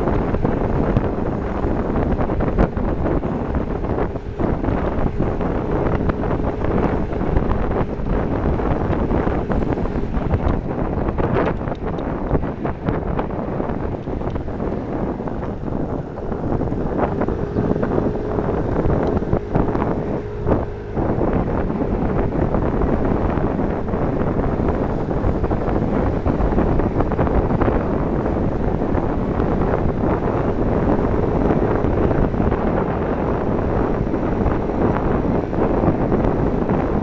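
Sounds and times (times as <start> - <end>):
road noise: 0.0 - 37.0
scooter engine hum: 0.0 - 37.0
wind rushing over microphone: 0.0 - 37.0.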